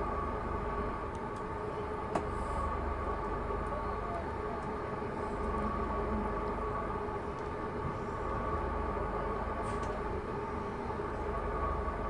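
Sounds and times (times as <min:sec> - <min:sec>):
train hum and low rumble: 0:00.0 - 0:12.0.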